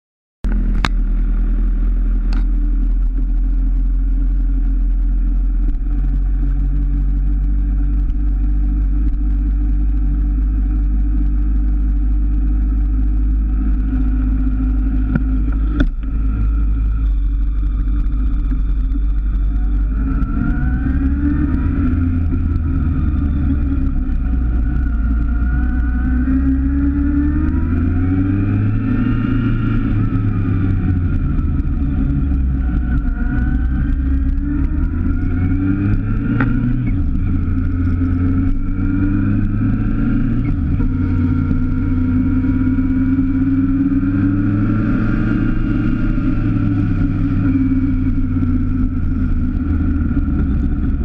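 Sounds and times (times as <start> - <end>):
motorcycle engine revving: 0.5 - 51.0.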